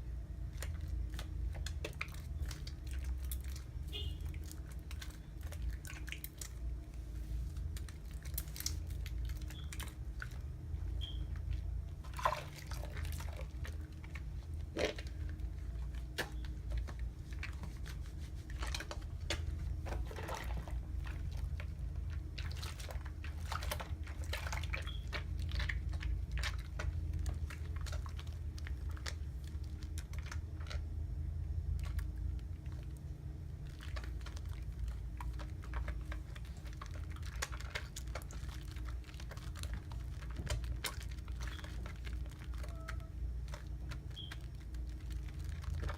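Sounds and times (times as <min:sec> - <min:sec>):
soap lather squishing: 0:00.1 - 0:45.9.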